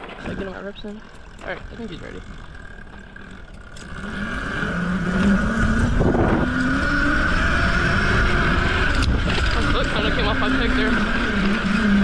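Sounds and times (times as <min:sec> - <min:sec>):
mini bike engine revving: 0:00.0 - 0:12.0.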